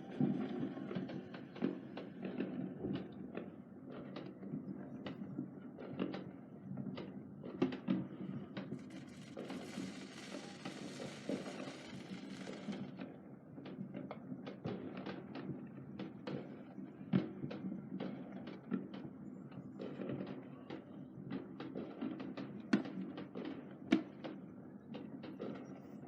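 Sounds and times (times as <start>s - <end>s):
fireworks popping and banging: 0.0s - 26.0s.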